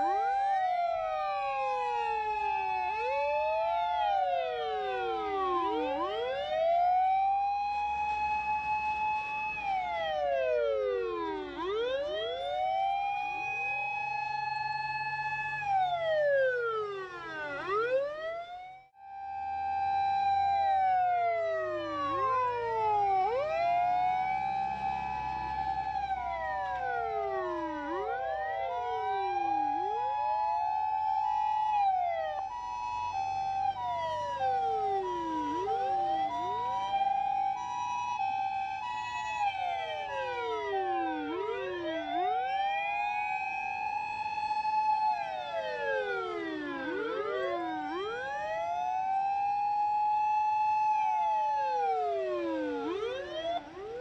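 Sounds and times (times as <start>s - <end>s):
emergency sirens wailing: 0.0s - 54.0s
two-tone hi-lo siren: 0.0s - 54.0s.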